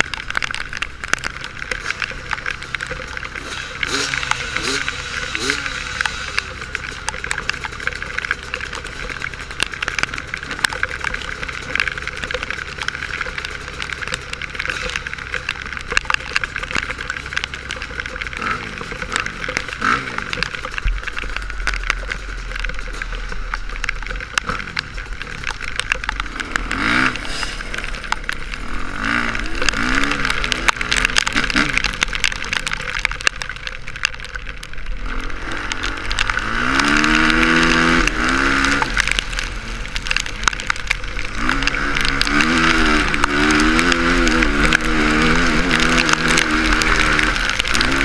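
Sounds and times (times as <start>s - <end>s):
sharp clicks and knocks: 0.0s - 48.0s
motocross bike engine revving: 0.1s - 33.2s, 35.0s - 48.0s.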